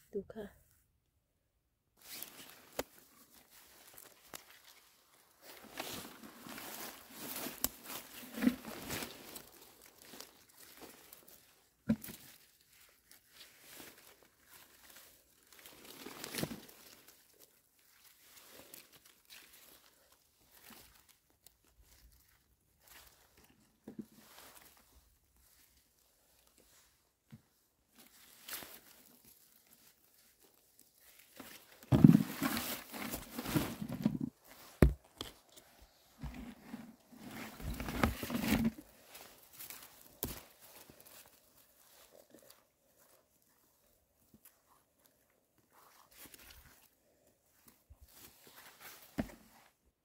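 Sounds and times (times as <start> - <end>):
rustling and crinkling: 2.0 - 50.0.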